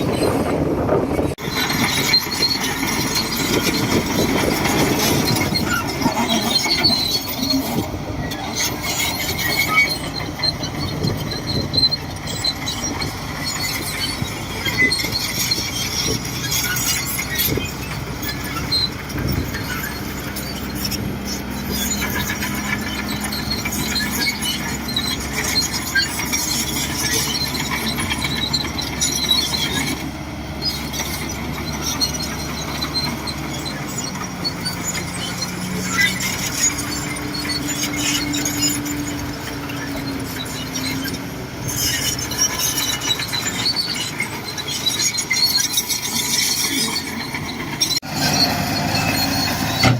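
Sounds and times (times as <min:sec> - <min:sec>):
bulldozer diesel engine running: 0:00.0 - 0:49.9
high-pitched metallic squeaks: 0:00.0 - 0:49.9.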